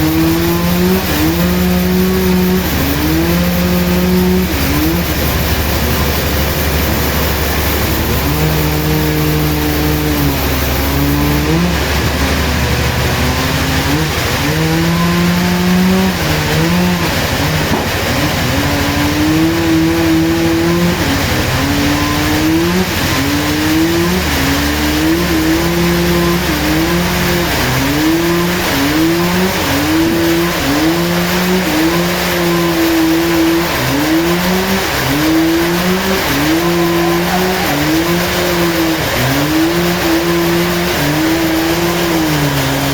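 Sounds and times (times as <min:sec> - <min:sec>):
sawmill machinery bogging in cut: 0:00.0 - 0:42.9
steady low hum: 0:00.0 - 0:42.9.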